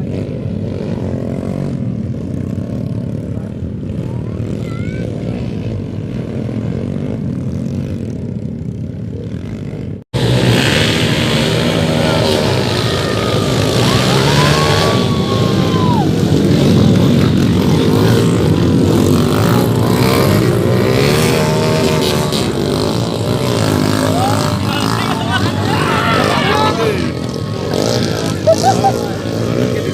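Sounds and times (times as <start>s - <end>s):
motocross engines revving: 0.0s - 29.9s.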